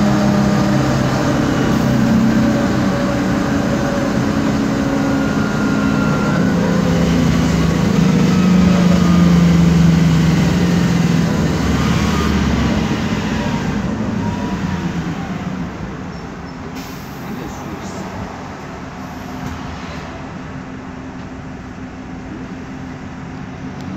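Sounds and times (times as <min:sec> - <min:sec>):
bus differential whine: 0:00.0 - 0:23.9
bus engine and road noise: 0:00.0 - 0:23.9.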